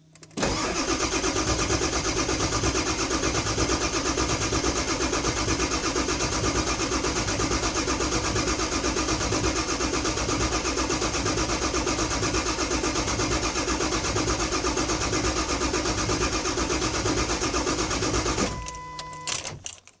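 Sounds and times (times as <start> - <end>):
diesel engine cranking: 0.2 - 20.0.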